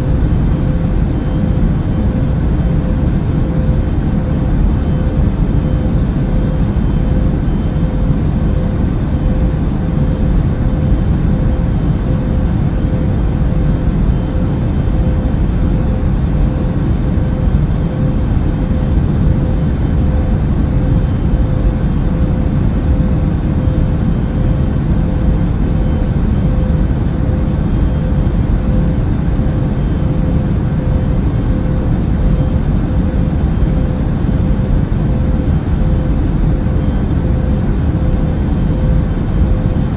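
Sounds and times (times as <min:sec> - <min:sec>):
airplane cabin engine rush: 0:00.0 - 0:39.9
faint steady hum: 0:00.0 - 0:39.9.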